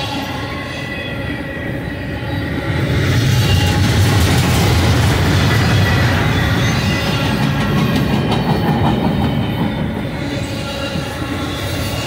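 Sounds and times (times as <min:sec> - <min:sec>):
high wheel squeal: 0:00.0 - 0:04.3, 0:05.3 - 0:12.0
freight train wheels rumbling: 0:00.0 - 0:12.0.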